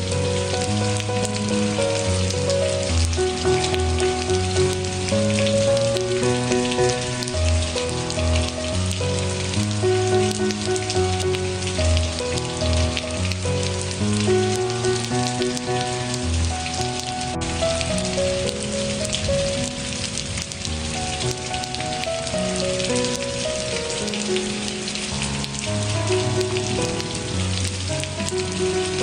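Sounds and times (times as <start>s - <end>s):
rain pattering: 0.0s - 29.0s
soft music of low held notes: 0.0s - 29.0s.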